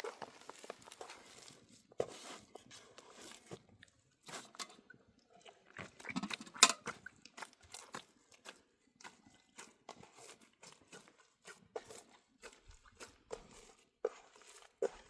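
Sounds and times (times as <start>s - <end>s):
crunching and scraping: 0.0s - 15.0s.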